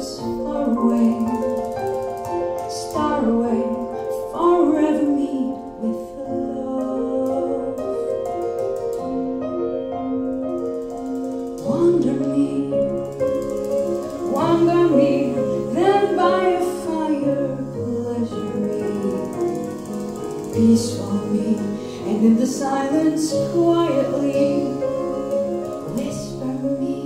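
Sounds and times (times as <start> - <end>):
person singing: 0.0 - 1.6, 2.7 - 8.7, 11.6 - 13.4, 14.2 - 27.0
piano accompaniment: 0.0 - 27.0.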